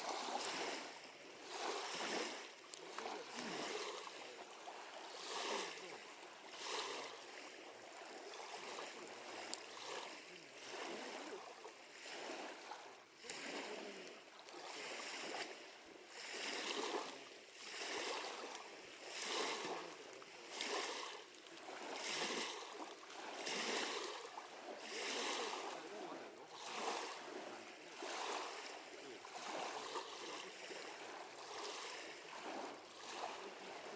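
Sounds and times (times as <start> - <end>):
waves lapping against shore: 0.0 - 33.9.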